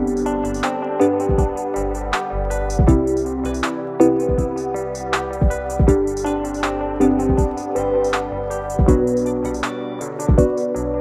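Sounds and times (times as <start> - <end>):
soft instrumental music with beat: 0.0 - 11.0.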